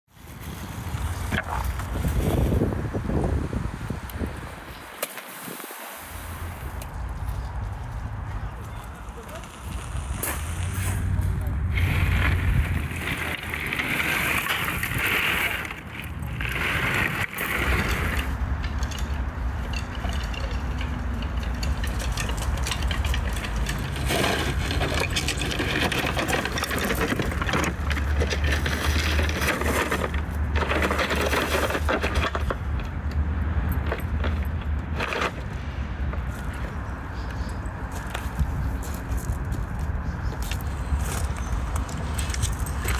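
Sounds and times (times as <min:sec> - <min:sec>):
gravel crunching under wooden rims: 0:00.1 - 0:42.9.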